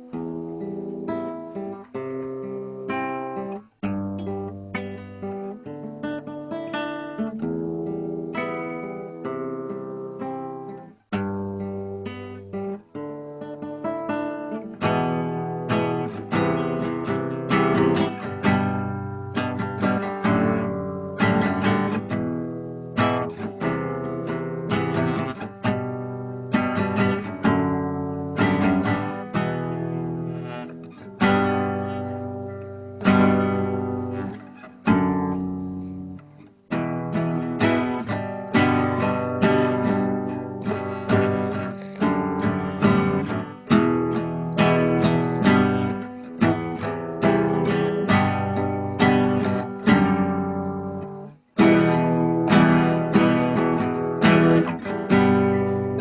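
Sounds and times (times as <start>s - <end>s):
acoustic guitar strumming chords: 0.0s - 56.0s.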